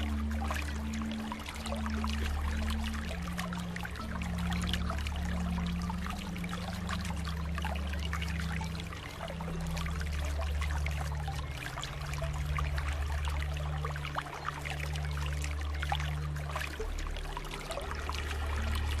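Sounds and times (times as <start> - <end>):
low hum shifting in pitch: 0.0 - 19.0
water trickling and splashing: 0.0 - 19.0.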